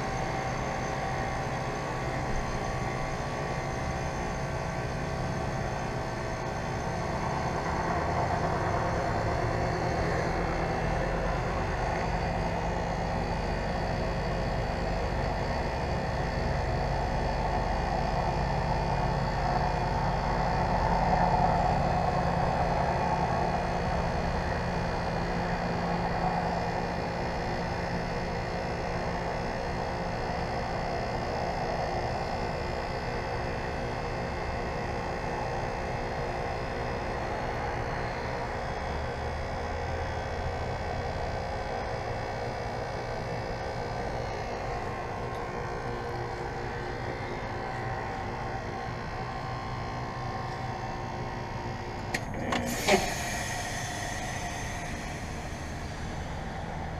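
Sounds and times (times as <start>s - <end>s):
heat pump unit humming: 0.0s - 56.9s.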